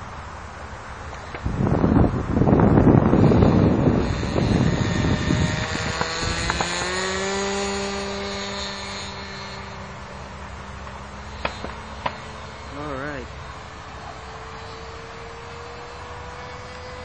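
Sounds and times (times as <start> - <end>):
model airplane engine buzzing: 1.0 - 17.0.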